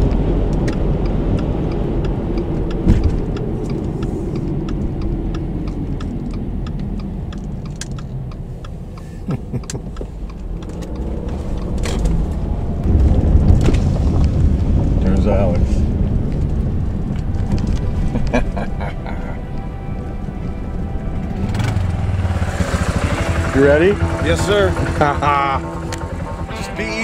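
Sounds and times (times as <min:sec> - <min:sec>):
tyre and engine rumble: 0:00.0 - 0:27.0.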